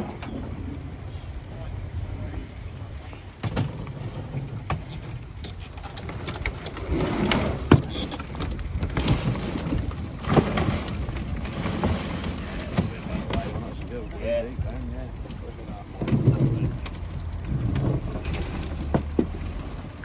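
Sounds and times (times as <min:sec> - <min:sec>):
vehicle rumble: 0:00.0 - 0:20.0
knocks and rattles: 0:03.0 - 0:20.0.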